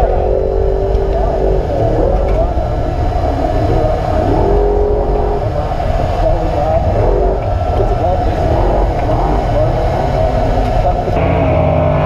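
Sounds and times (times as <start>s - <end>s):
indistinct voices: 0.0s - 12.0s
truck engine low rumble: 0.0s - 12.0s.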